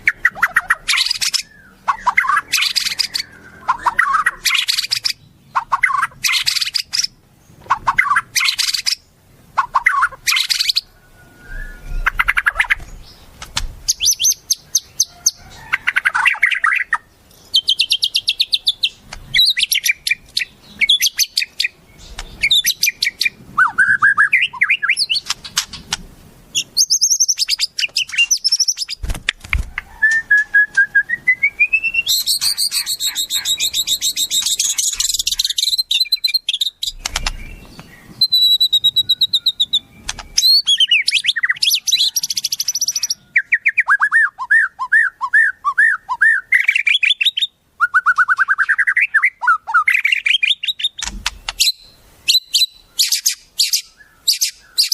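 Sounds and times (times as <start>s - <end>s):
songbird singing trills and whistles: 0.0s - 29.1s, 29.7s - 54.9s.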